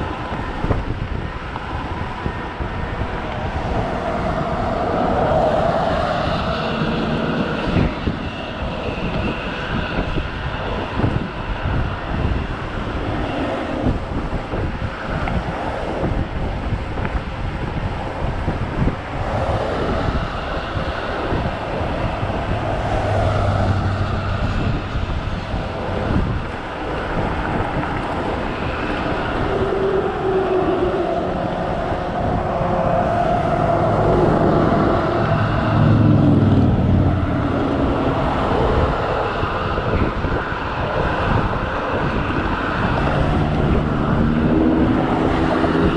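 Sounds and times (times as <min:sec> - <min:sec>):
scooter road and tyre noise: 0:00.0 - 0:45.9
wind buffeting microphone: 0:00.0 - 0:45.9.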